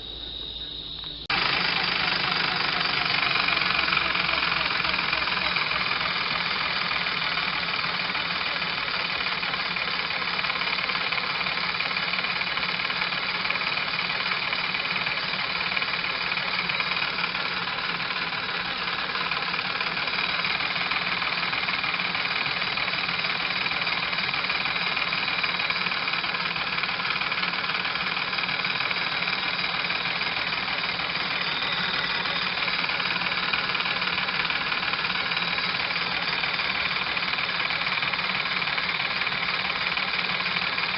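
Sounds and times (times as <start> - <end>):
steam engine running: 0.0 - 40.9.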